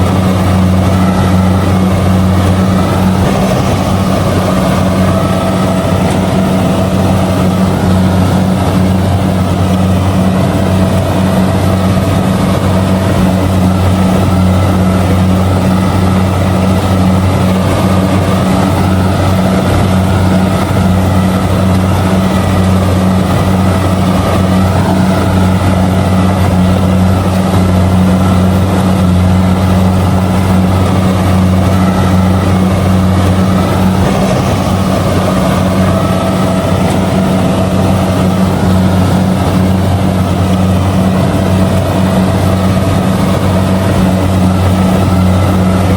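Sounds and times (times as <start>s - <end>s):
combine harvester engine hum: 0.0s - 45.9s
threshing machinery clatter: 0.0s - 45.9s.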